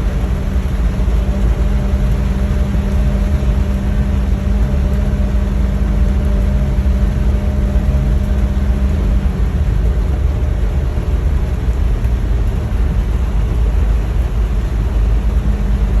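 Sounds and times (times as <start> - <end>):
car engine and tyres on wet road: 0.0 - 16.0
low hum: 0.0 - 16.0
rain hiss and spray: 0.0 - 16.0.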